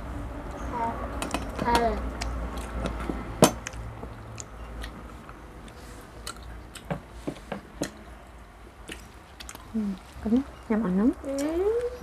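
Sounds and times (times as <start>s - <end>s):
people chewing food: 0.4s - 12.0s.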